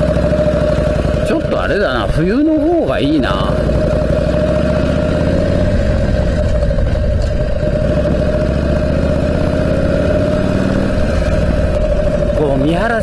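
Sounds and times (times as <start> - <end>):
motorcycle engine running: 0.0 - 13.0
steady engine whine: 0.0 - 13.0.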